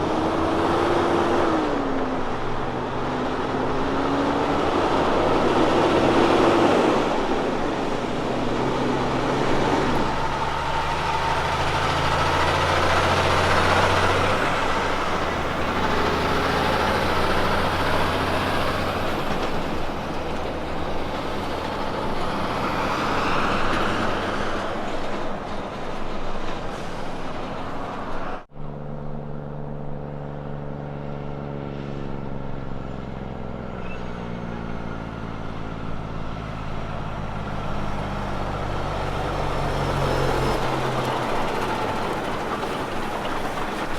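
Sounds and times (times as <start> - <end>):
diesel truck engine running steadily: 0.0 - 43.9
diesel truck engine shifting gears: 0.0 - 43.9
road and tyre noise: 0.0 - 43.9.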